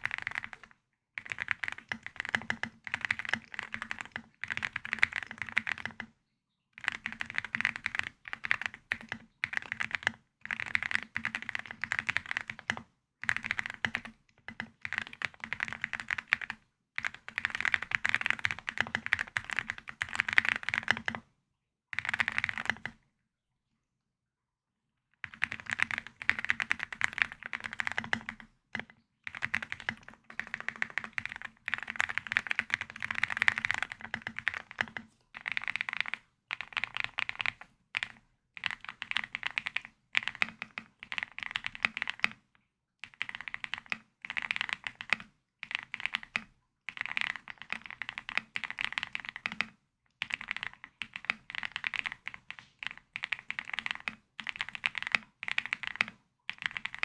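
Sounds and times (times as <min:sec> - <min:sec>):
mechanical keyboard typing: 0:00.0 - 0:06.1, 0:06.8 - 0:21.2, 0:22.0 - 0:23.0, 0:25.2 - 0:42.4, 0:43.0 - 0:57.0.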